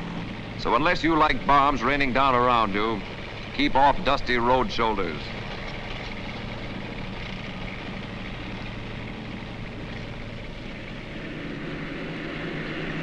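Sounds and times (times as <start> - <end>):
tank engine and tracks rumbling: 0.0 - 13.0.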